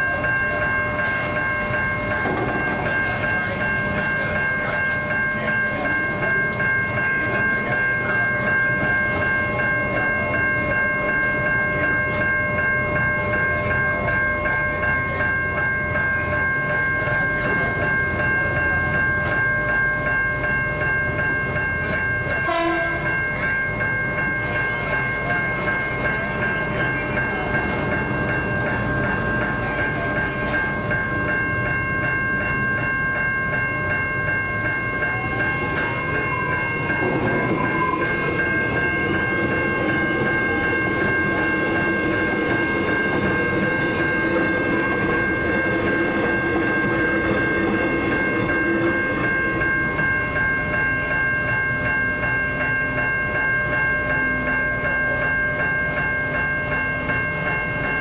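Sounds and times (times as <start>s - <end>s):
level crossing bells ringing: 0.0s - 58.0s
train rumbling: 0.0s - 58.0s.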